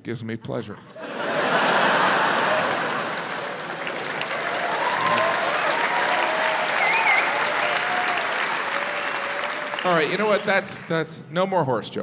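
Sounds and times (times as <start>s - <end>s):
audience applauding: 1.1s - 11.1s.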